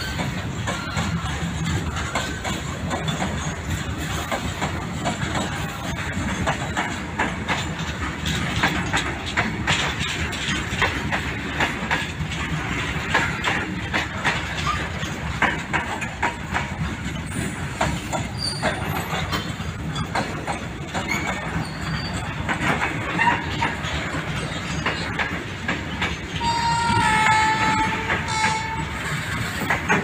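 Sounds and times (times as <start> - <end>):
train wagons rumbling past: 0.0 - 30.0
train wheels clacking: 0.0 - 30.0.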